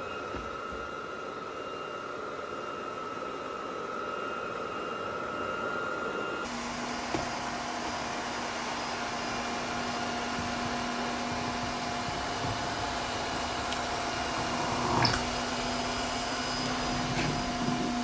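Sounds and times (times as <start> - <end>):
vacuum humming: 0.0 - 18.0
vacuum mop whining: 0.0 - 18.0.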